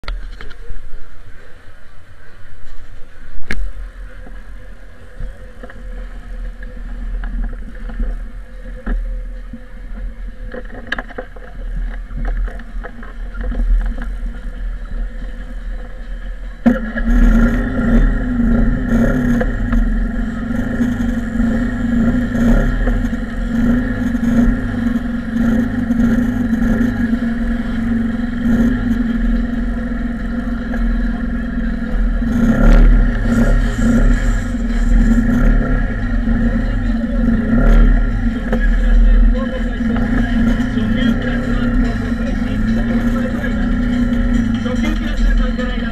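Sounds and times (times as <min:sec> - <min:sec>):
low rumble: 0:00.0 - 0:45.9
motorcycle engine running: 0:00.0 - 0:45.9.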